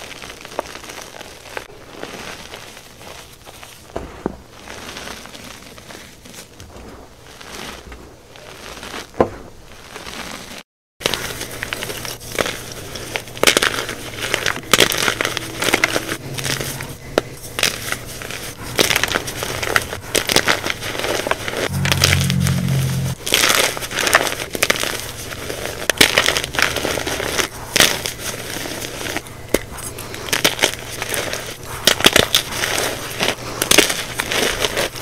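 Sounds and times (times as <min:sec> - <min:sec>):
hands crunching chalk: 0:00.0 - 0:35.0.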